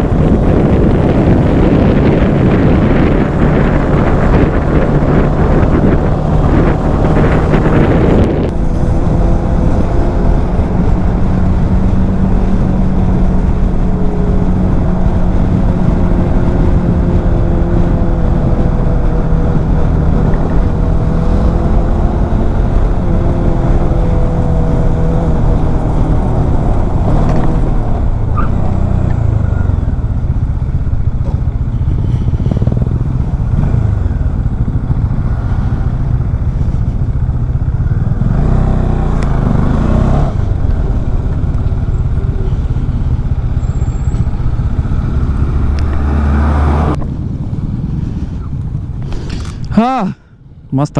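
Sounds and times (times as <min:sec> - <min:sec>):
wind buffeting microphone: 0:00.0 - 0:50.7
motorcycle engine cruising: 0:00.0 - 0:50.8.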